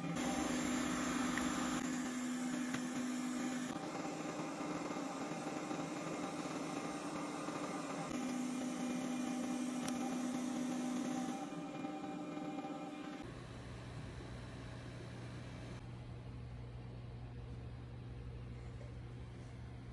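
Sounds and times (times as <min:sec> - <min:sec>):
hot air blower fan hum: 0:00.0 - 0:19.9.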